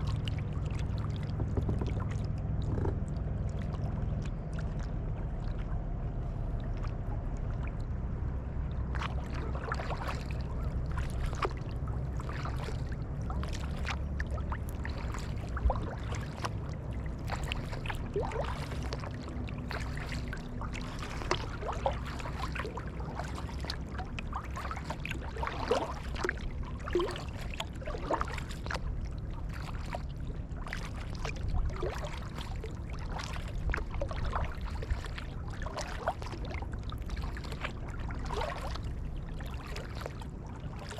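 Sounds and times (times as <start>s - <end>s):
low rumble: 0.0s - 40.9s
paddle splashing in water: 0.0s - 40.9s
water trickling and gurgling: 0.0s - 40.9s.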